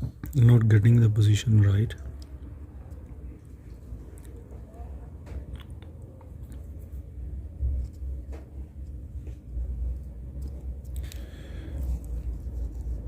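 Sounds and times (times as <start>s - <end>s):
low steady rumble: 0.4s - 13.0s.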